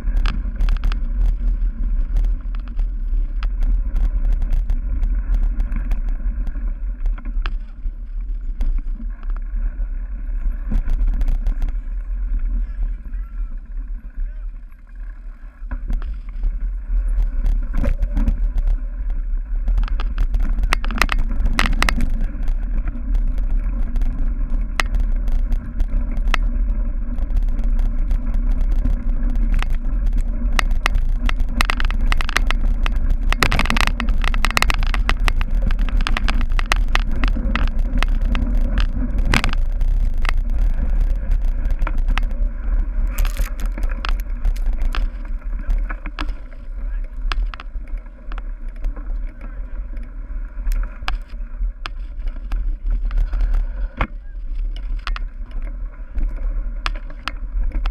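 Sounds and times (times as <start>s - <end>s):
bike clicks and rattles: 0.0s - 57.9s
wind rumble on microphone: 0.0s - 57.9s.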